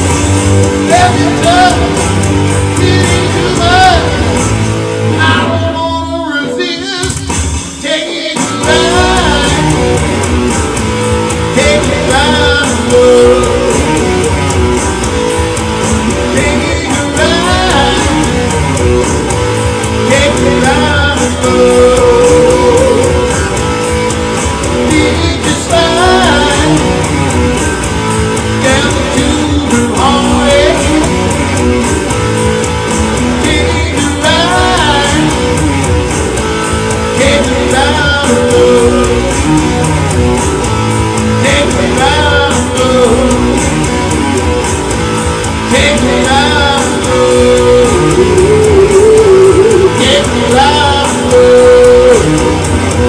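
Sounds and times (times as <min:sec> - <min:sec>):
electric guitar rock music: 0:00.0 - 0:53.0
man singing: 0:00.8 - 0:10.7, 0:11.3 - 0:14.9, 0:15.9 - 0:23.7, 0:24.5 - 0:27.7, 0:28.4 - 0:31.9, 0:33.0 - 0:36.0, 0:36.8 - 0:40.0, 0:41.2 - 0:44.6, 0:45.4 - 0:53.0.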